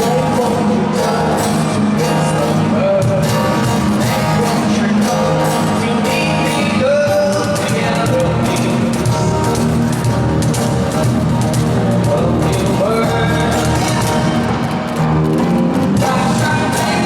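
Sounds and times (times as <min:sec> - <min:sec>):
person singing: 0:00.0 - 0:09.9, 0:10.8 - 0:14.8, 0:15.8 - 0:17.0
drums: 0:00.0 - 0:17.0
electric guitars: 0:00.0 - 0:17.0.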